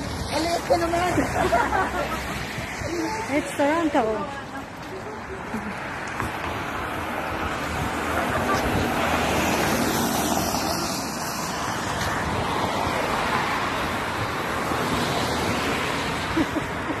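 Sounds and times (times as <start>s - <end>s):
cars passing on street: 0.0s - 17.0s.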